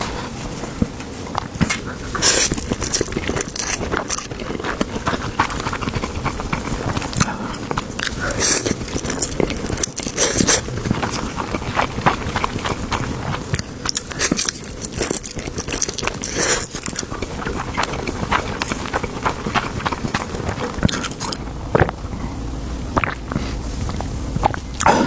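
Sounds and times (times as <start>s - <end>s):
close-miked eating crunches: 0.0s - 25.0s.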